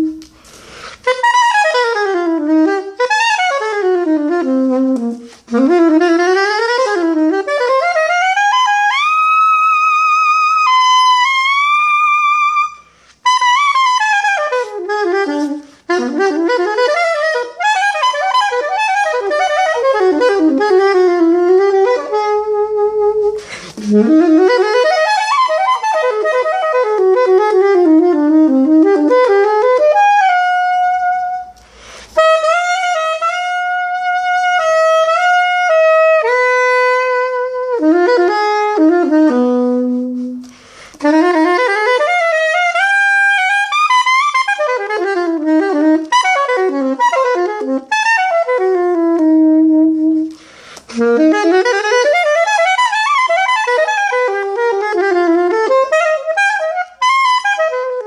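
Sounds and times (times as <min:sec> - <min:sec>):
soprano saxophone playing: 0:00.0 - 0:58.0.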